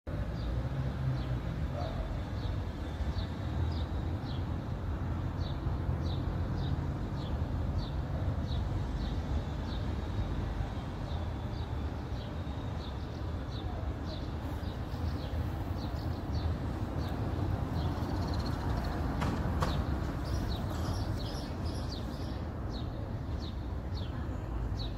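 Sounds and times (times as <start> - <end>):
low street rumble: 0.1 - 24.9.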